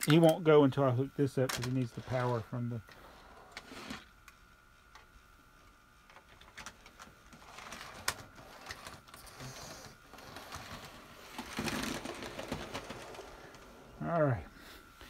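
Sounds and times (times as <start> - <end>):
faint high hum: 0.0 - 15.0.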